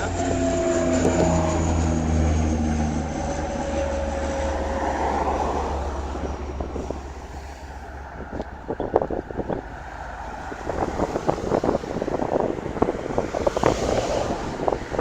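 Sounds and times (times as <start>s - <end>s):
turboprop aircraft droning: 0.0s - 15.0s
wind gusts on microphone: 0.0s - 15.0s.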